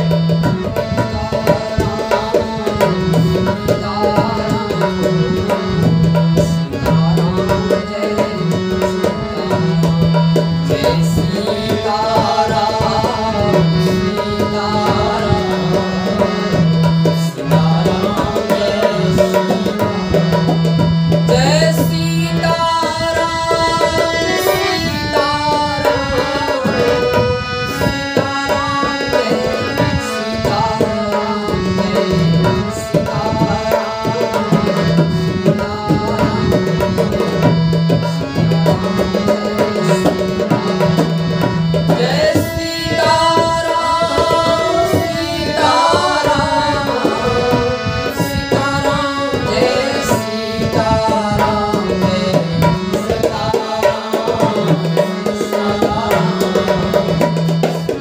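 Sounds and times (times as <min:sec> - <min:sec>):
tabla drums: 0:00.0 - 0:58.0.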